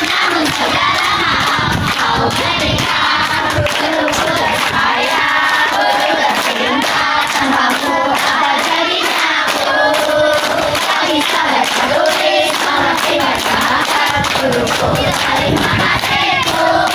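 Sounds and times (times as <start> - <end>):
children clapping hands: 0.0 - 16.9
children singing in chorus: 0.0 - 16.9.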